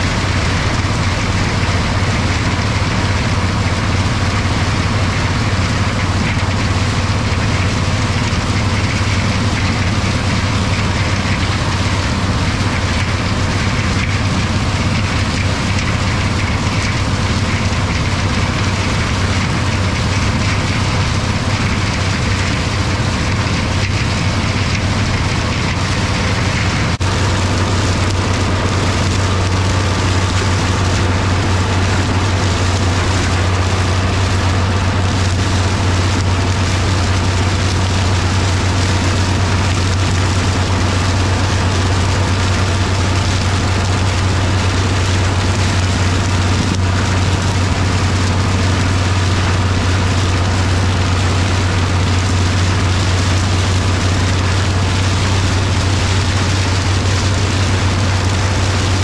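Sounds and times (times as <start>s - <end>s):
diesel tractor engine humming: 0.0s - 59.0s.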